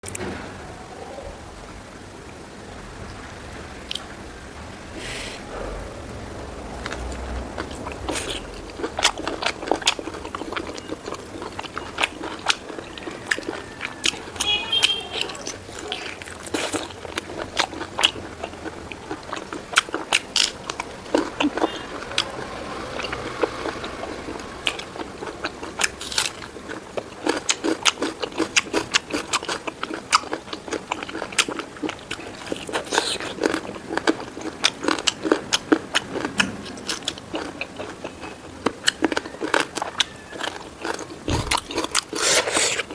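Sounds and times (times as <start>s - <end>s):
chewing and biting: 6.7s - 42.9s.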